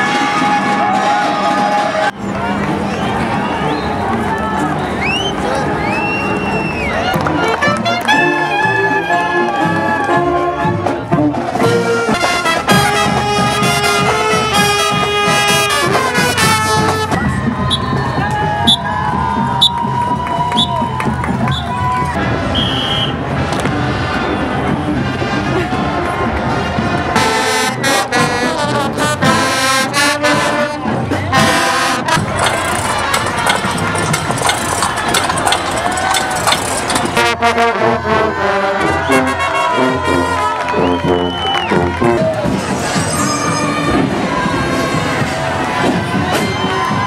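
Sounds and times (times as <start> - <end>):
brass band playing: 0.0 - 2.2, 7.0 - 18.8, 22.2 - 47.0
crowd voices: 0.0 - 47.0
street noise: 0.0 - 47.0.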